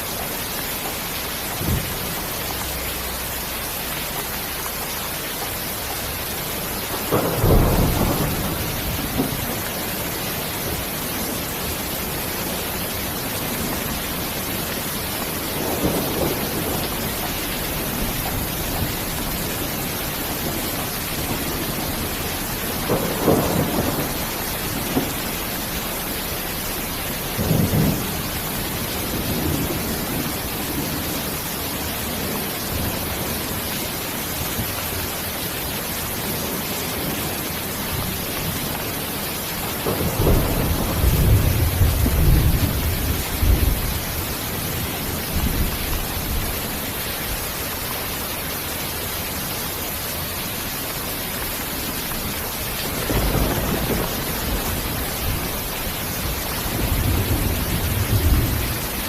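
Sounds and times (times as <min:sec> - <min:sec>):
rain hiss: 0:00.0 - 0:59.0
thunder rumbling: 0:06.0 - 0:48.1, 0:51.2 - 0:59.0.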